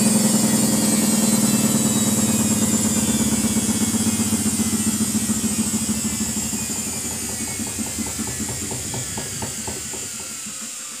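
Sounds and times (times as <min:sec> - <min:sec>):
rhythmic pulse of turning drum: 0:00.0 - 0:10.8
washing machine motor whine: 0:00.0 - 0:11.0.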